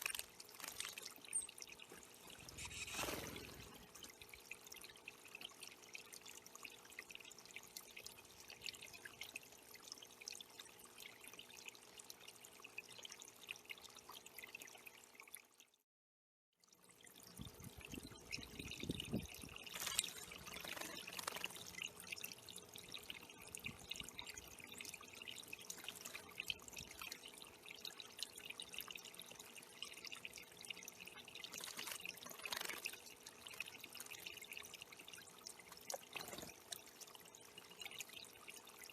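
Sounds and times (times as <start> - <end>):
water trickling and splashing: 0.0 - 15.8, 16.6 - 38.9.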